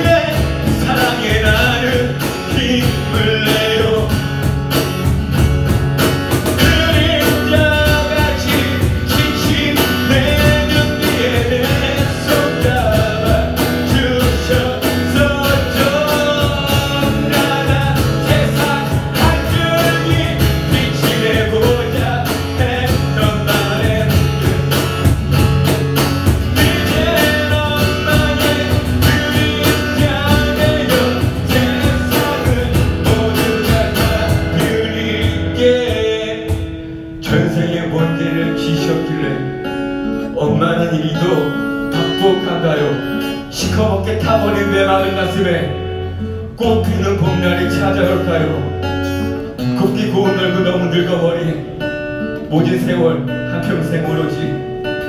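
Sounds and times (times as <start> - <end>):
man singing: 0.0 - 5.2, 6.4 - 48.9, 49.6 - 54.8
acoustic guitar playing slow song: 0.0 - 55.0
cajon beat: 0.0 - 55.0.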